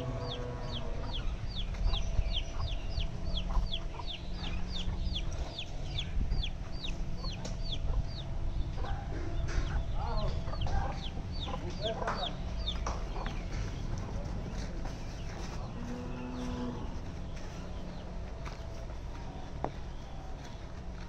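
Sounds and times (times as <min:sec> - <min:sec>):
small bird chirping: 0:00.0 - 0:18.1
steady low rumble: 0:00.0 - 0:21.0.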